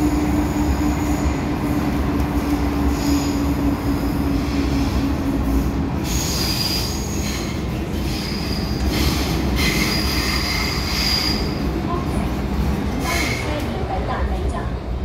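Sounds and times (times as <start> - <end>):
train rumble in tunnel: 0.0 - 15.0.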